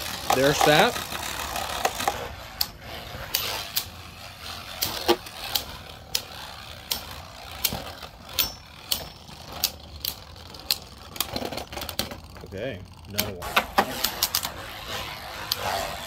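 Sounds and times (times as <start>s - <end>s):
spinning tops clacking together: 0.0s - 16.0s
spinning tops whirring: 0.0s - 16.0s.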